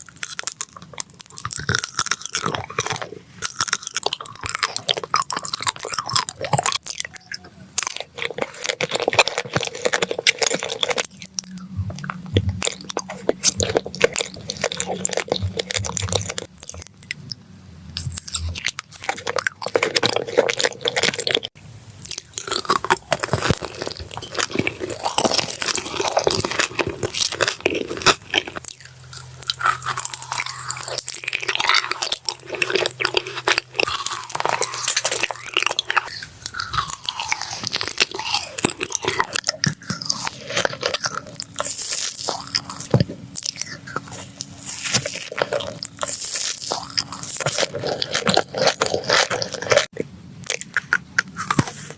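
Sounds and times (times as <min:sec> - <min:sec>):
chewing crisp food: 0:00.0 - 0:51.9.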